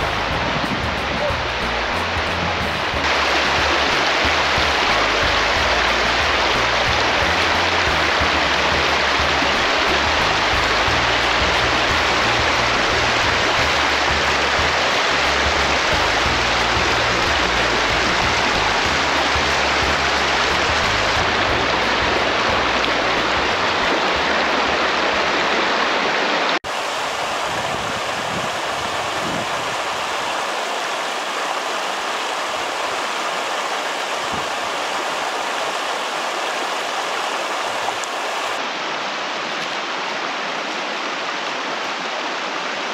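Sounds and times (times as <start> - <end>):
running water rushing: 0.0 - 42.9.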